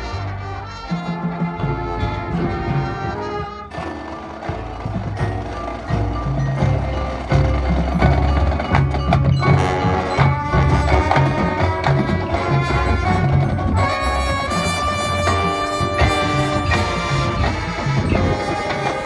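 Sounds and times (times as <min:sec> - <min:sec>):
low bass notes: 0:00.0 - 0:19.0
marching band playing: 0:00.0 - 0:19.0
struck percussion: 0:00.0 - 0:19.0.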